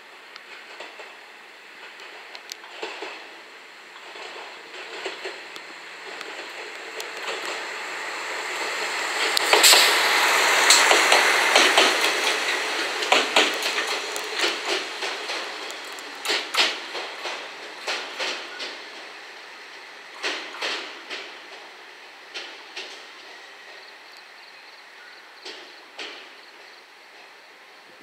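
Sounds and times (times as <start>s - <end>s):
railcar passing: 0.0s - 28.0s
wheel clacks over rail joints: 0.4s - 1.2s, 1.8s - 27.4s.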